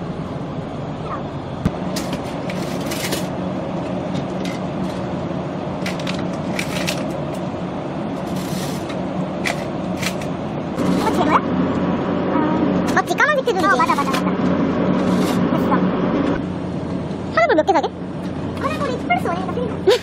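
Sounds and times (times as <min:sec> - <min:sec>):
drink coolers humming: 0:00.0 - 0:20.0.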